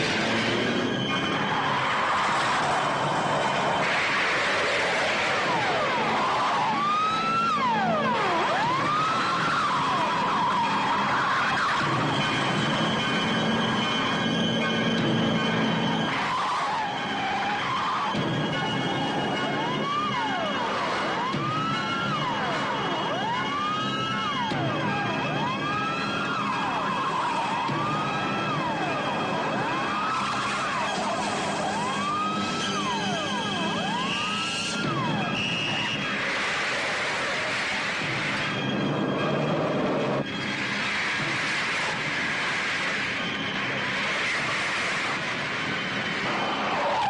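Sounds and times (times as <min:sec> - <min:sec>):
car engine: 0:00.0 - 0:47.0
police siren wailing: 0:00.0 - 0:47.0.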